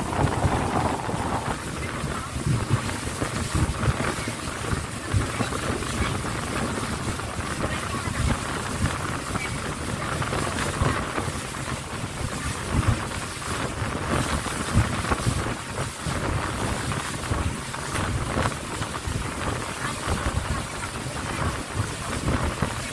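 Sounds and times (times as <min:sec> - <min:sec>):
speedboat engine and water rush: 0:00.0 - 0:22.9
wind buffeting microphone: 0:00.0 - 0:22.9.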